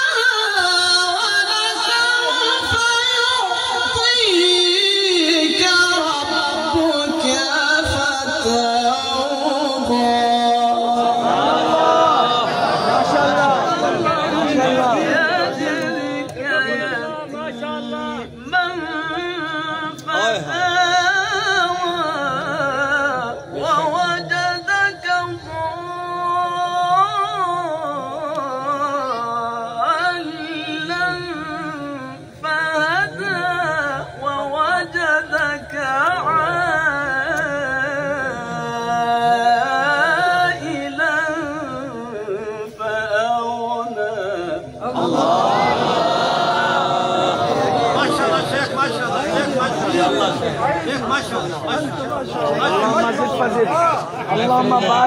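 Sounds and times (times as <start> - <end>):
man reciting melodically: 0.0 - 55.0.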